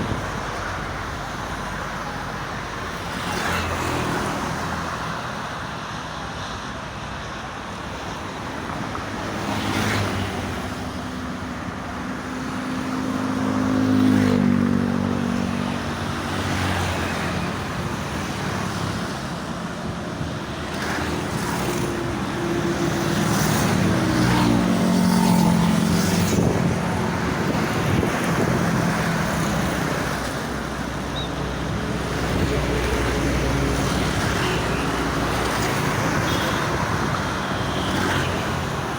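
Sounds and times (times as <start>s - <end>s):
traffic rushing past: 0.0s - 38.9s.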